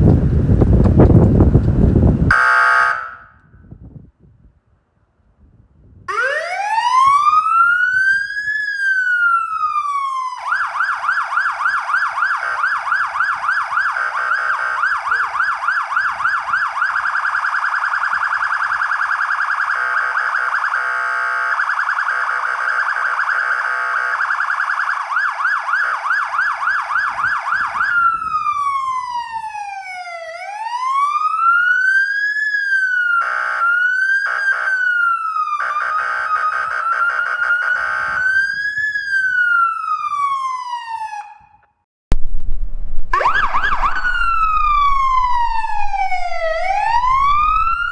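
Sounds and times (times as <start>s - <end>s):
fire engine siren: 0.1s - 3.8s, 6.1s - 41.8s, 43.1s - 47.9s
brief siren bursts: 2.3s - 3.6s, 6.1s - 41.8s, 43.1s - 47.9s.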